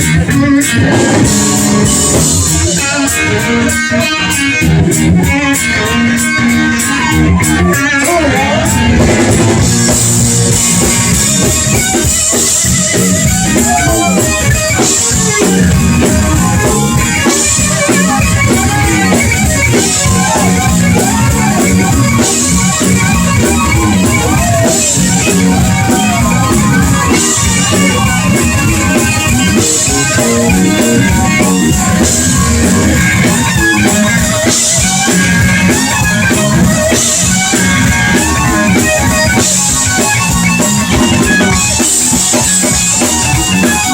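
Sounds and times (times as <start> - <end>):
drums and bass: 0.0 - 43.9
electric guitar lead: 0.0 - 43.9.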